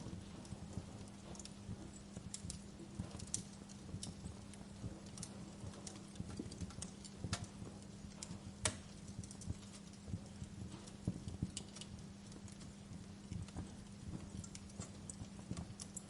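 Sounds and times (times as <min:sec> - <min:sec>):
steady low hum: 0:00.0 - 0:16.0
wood fire crackling: 0:00.0 - 0:16.0.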